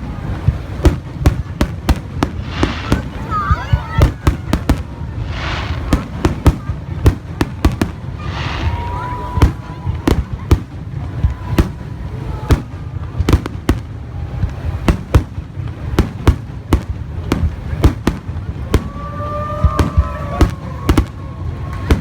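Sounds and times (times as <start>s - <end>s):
fireworks bangs: 0.0s - 22.0s
low rumble of bursts: 0.0s - 22.0s.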